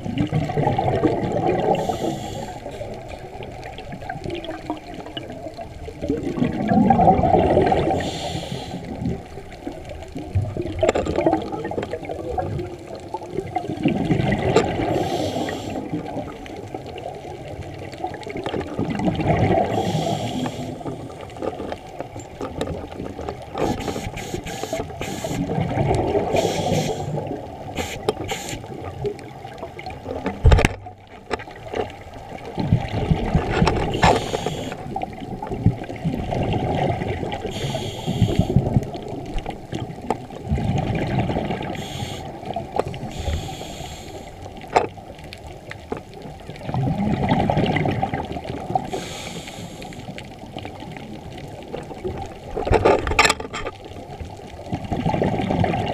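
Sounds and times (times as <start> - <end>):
underwater regulator bubbles: 0.0 - 53.3, 53.9 - 55.9
muffled rumbling water: 0.0 - 55.9.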